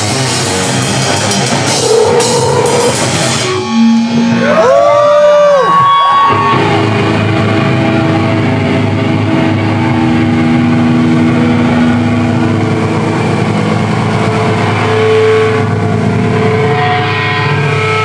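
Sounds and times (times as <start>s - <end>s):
grindcore band playing live: 0.0s - 18.0s.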